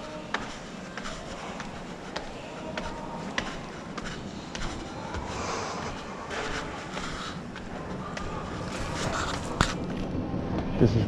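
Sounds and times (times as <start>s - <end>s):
footsteps climbing stairs: 0.0s - 9.8s.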